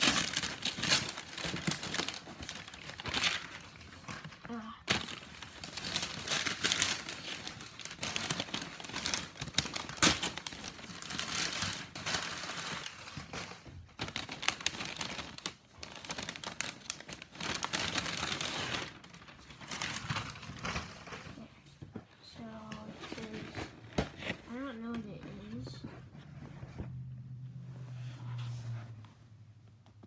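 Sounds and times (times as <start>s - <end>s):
wrapping paper crinkling and tearing: 0.0s - 21.5s, 22.4s - 25.5s.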